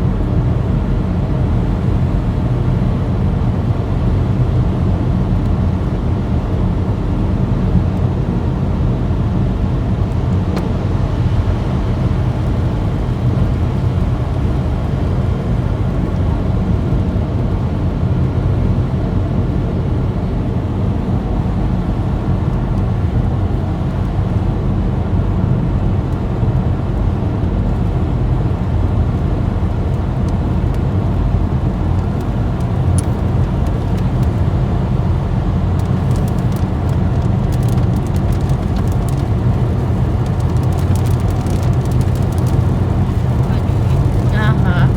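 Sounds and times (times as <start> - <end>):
car cabin road and engine rumble: 0.0 - 44.9.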